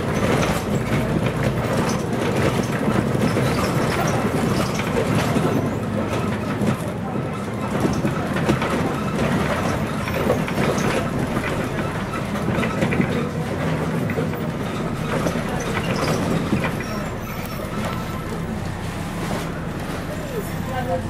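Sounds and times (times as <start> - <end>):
bus body rattling: 0.0 - 21.0
bus diesel engine running: 0.0 - 21.0.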